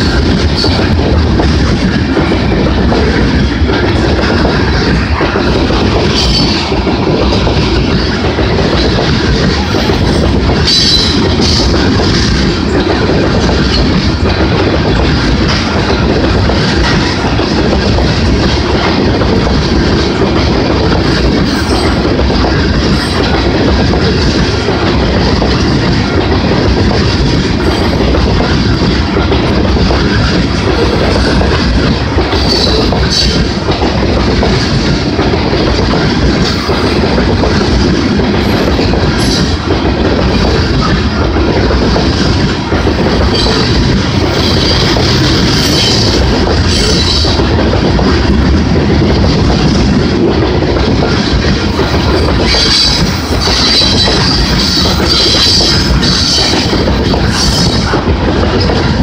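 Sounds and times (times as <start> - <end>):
clickety-clack over rail joints: 0.0 - 59.0
freight train rumbling past: 0.0 - 59.0.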